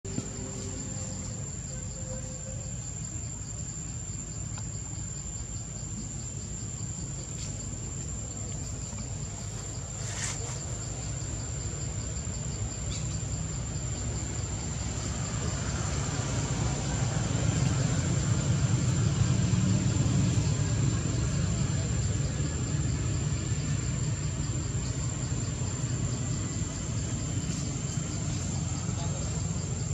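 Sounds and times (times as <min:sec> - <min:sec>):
insects droning: 0:00.1 - 0:29.9.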